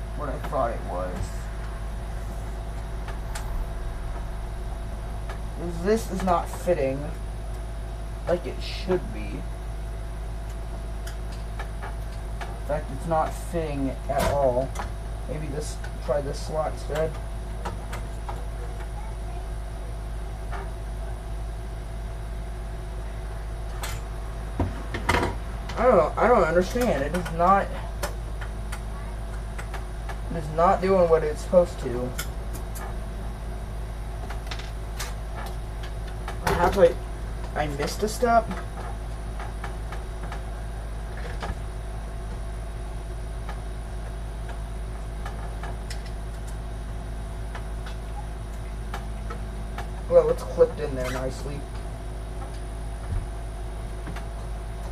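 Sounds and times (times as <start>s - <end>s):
low background hum: 0.0s - 54.9s.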